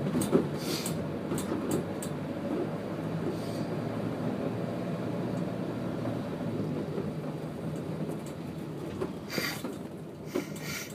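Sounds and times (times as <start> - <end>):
low engine hum: 0.0 - 10.9.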